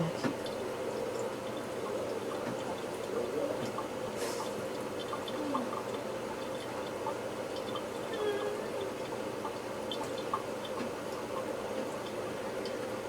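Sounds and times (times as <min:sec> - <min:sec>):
water drips and splashes: 0:00.0 - 0:08.1, 0:08.7 - 0:13.0.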